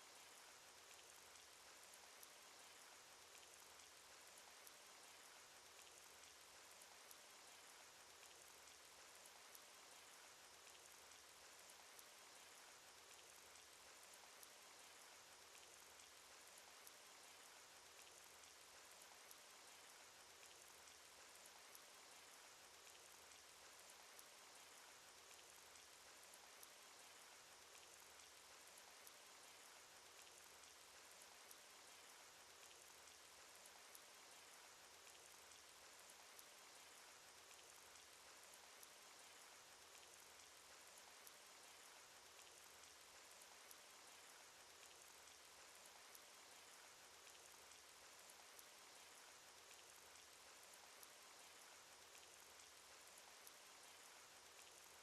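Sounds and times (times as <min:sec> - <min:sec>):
raindrops ticking: 0:04.6 - 0:54.9.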